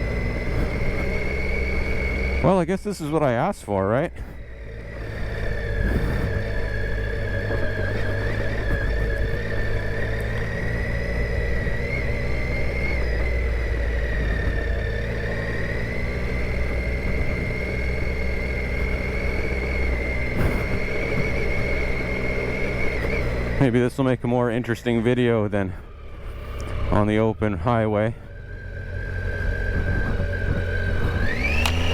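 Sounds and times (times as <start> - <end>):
motorcycle engine rumbling: 0.0 - 31.9
thin rising whine: 0.0 - 31.9.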